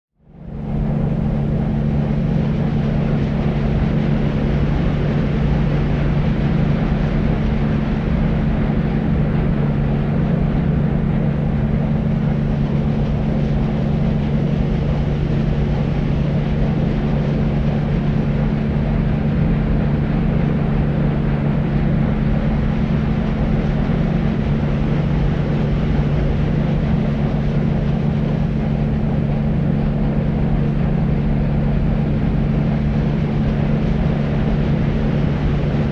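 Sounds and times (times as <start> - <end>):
deep white noise: 0.3 - 35.9.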